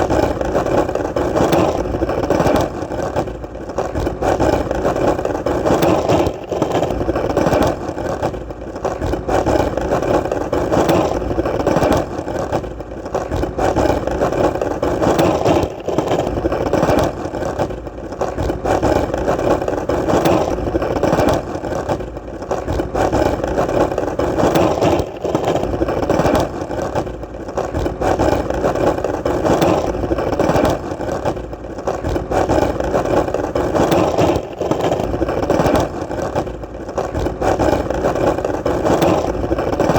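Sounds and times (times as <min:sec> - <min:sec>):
skateboard wheels rolling: 0:00.0 - 0:39.9.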